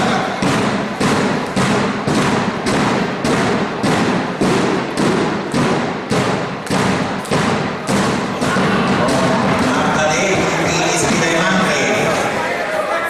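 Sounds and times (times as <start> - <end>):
rhythmic thumping: 0.0 - 12.5
murmur of voices: 0.0 - 13.0.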